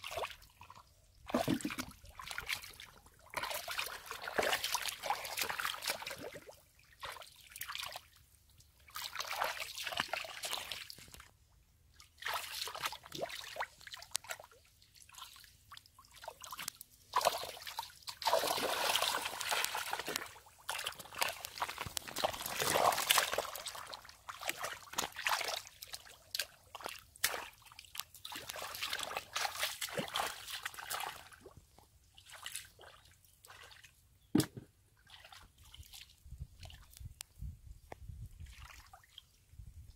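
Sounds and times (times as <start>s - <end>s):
sloshing and squelching in mud: 0.0s - 11.3s, 12.0s - 37.1s, 38.4s - 39.4s.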